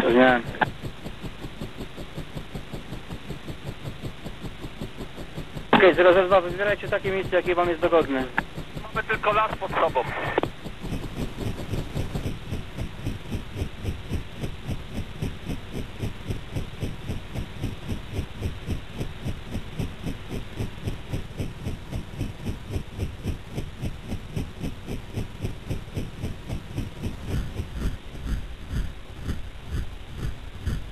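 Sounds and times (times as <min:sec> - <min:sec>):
helicopter rotor thumping: 0:00.0 - 0:30.9.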